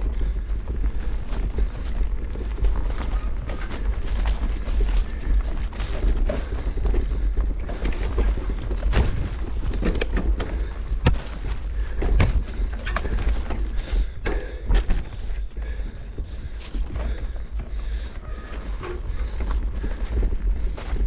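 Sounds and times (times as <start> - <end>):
bike knocking and rattling: 0.0 - 21.0
bike tyres rumbling on dirt: 0.0 - 21.0.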